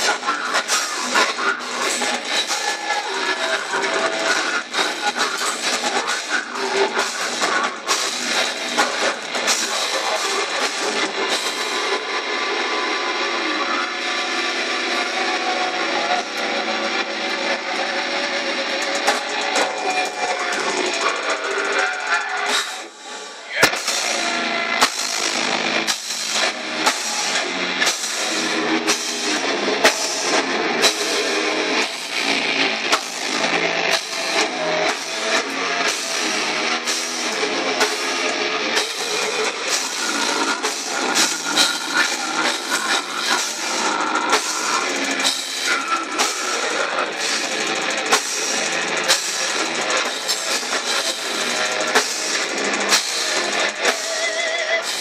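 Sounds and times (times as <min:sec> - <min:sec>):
death metal band playing live: 0:00.0 - 0:55.0
drum and cymbal hits: 0:00.0 - 0:55.0.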